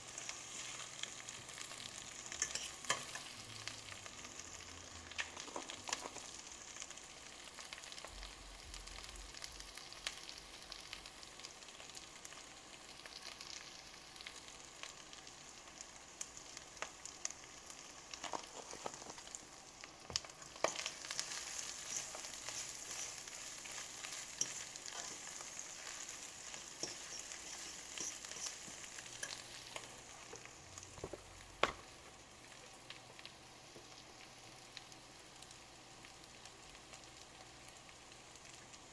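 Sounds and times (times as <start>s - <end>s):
food sizzling in a skillet: 0.0s - 38.9s.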